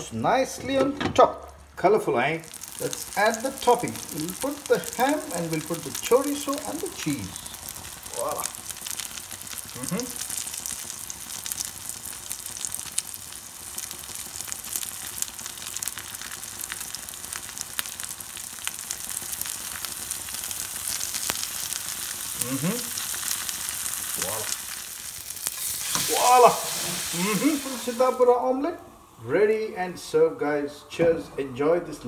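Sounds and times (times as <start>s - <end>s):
omelette sizzling in a pan: 1.4s - 29.5s.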